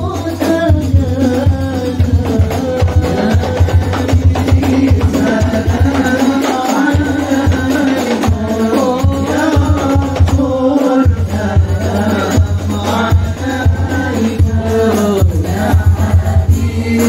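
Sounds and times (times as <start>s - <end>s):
hand-drum beats: 0.0s - 17.0s
men singing in unison: 0.0s - 17.0s.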